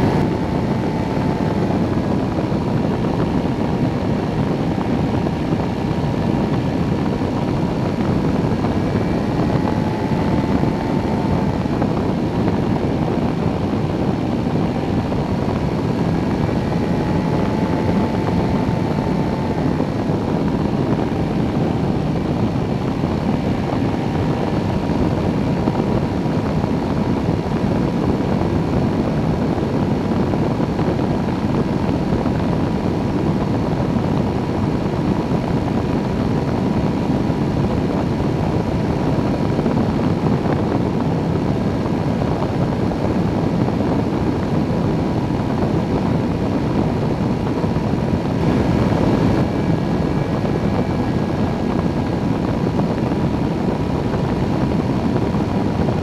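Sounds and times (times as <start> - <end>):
microlight engine drone: 0.0 - 56.0
wind rushing past camera: 0.0 - 56.0.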